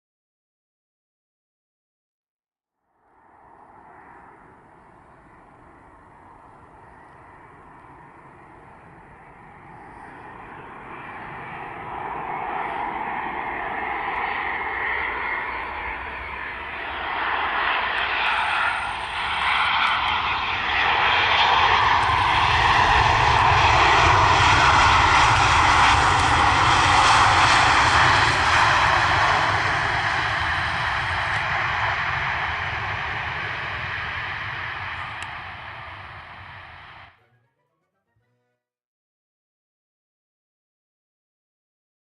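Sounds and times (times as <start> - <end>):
jet engines roaring: 3.2 - 37.2.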